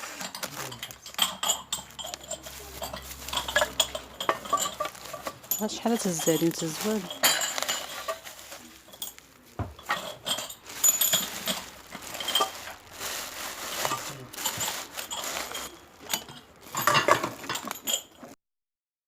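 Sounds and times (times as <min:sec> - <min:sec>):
dishes and utensils clattering: 0:00.0 - 0:18.4.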